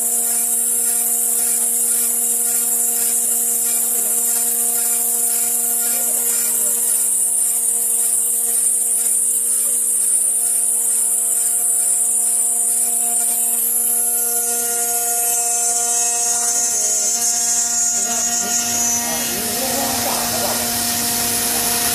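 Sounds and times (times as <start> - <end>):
hiss of cutting and water spray: 0.0 - 21.9
router motor whine: 0.0 - 21.9.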